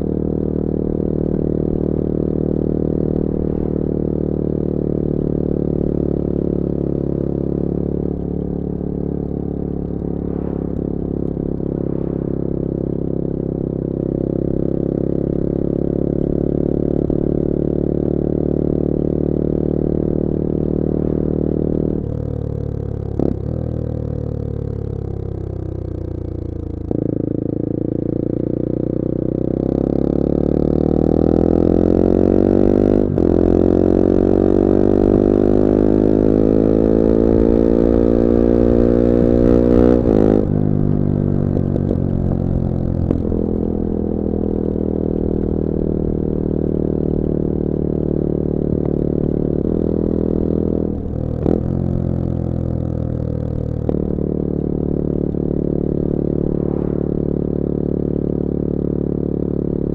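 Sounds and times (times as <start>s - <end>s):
motorcycle engine riding: 0.0s - 59.9s.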